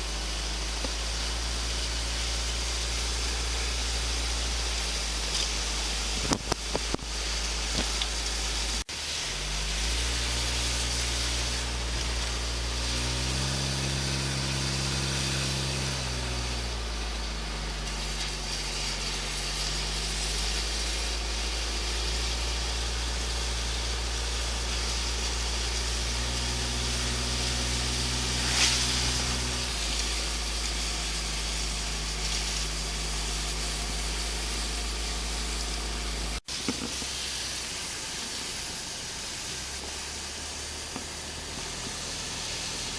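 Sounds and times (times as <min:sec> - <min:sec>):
car engine while driving: 0:00.0 - 0:42.9
road noise rumble and hiss: 0:00.0 - 0:42.9.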